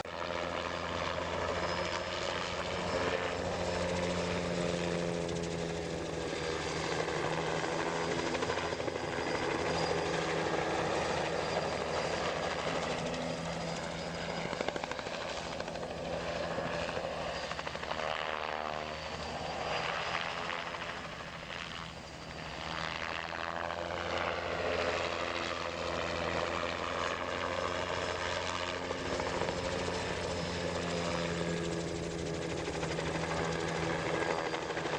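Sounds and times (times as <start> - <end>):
turbine engine whine: 0.0 - 34.9
helicopter rotor beating: 0.1 - 34.9.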